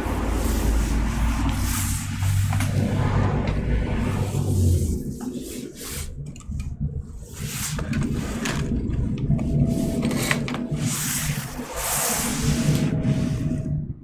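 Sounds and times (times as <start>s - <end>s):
rustling and sliding: 0.0s - 13.9s
steady low hum: 0.0s - 14.0s.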